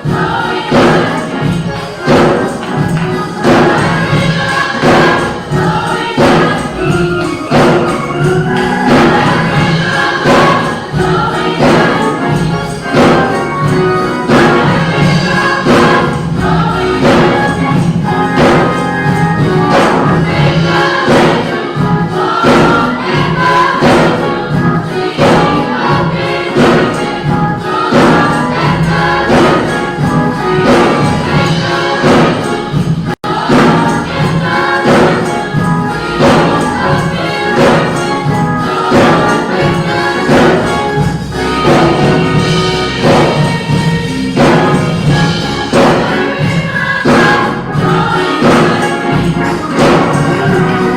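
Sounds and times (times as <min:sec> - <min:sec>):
gospel choir singing with band: 0:00.0 - 0:50.9.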